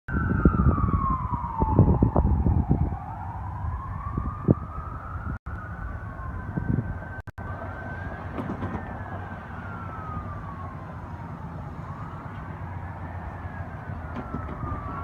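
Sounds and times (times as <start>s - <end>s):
ambulance siren wailing: 0.1s - 15.0s.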